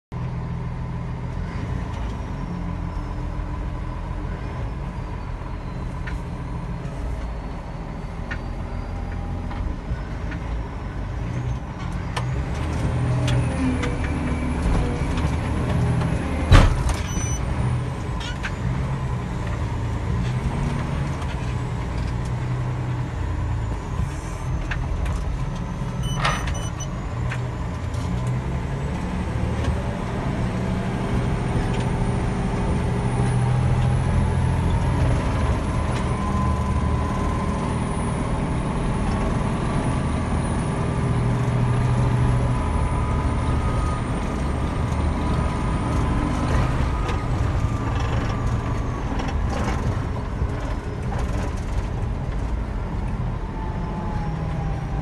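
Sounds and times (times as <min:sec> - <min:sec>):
wheel loader diesel engine: 0:00.1 - 0:55.0.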